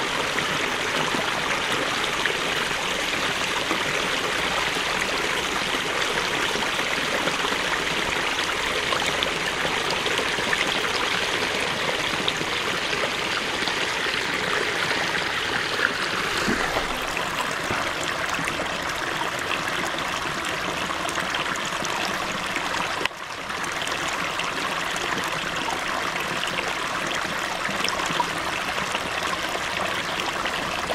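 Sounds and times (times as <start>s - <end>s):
creek splashing over waterfall: 0.0s - 30.9s.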